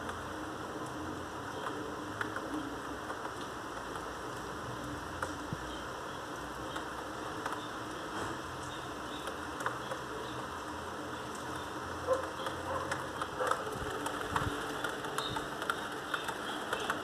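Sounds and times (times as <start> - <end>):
raindrops ticking: 0.0 - 17.0
steady rain: 0.0 - 17.0.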